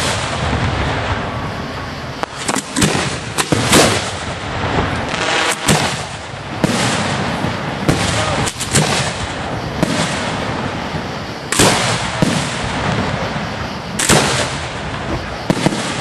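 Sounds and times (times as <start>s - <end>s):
fireworks bangs: 0.0s - 16.0s
fireworks crackle: 0.0s - 16.0s.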